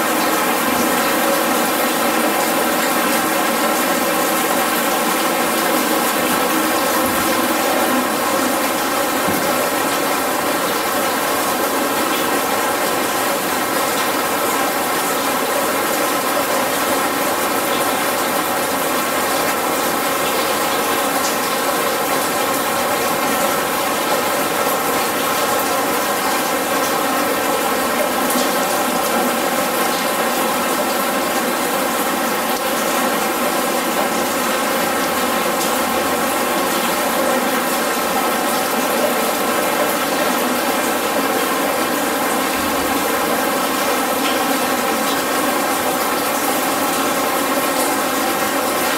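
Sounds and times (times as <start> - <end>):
rush of falling water: 0.0 - 48.9.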